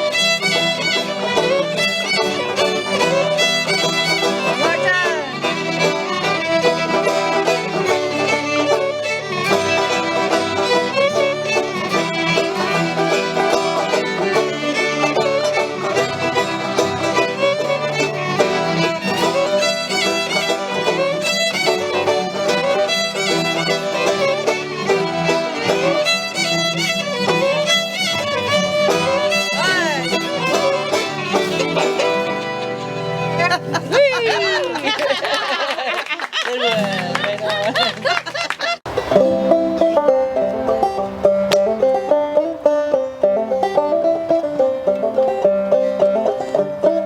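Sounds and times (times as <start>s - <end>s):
fiddle playing fast tune: 0.0s - 47.0s
strummed string accompaniment: 0.0s - 47.0s.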